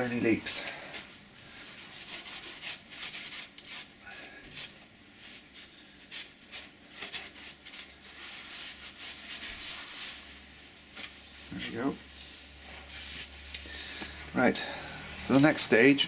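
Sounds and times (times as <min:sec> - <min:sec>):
cloth rag rubbing on metal: 0:00.0 - 0:13.5.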